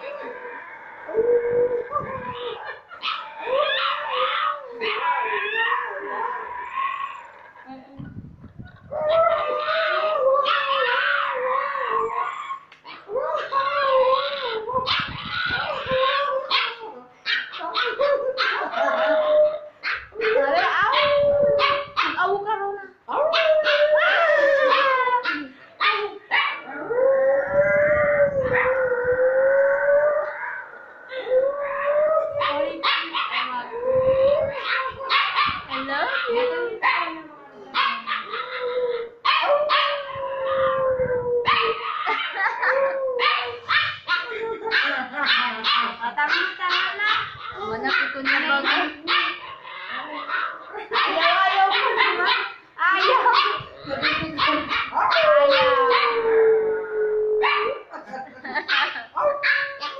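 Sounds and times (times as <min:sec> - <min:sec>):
puppy howling: 0:00.0 - 0:07.4, 0:08.9 - 0:22.3, 0:23.1 - 0:45.9, 0:46.7 - 0:57.9, 0:59.2 - 0:59.9.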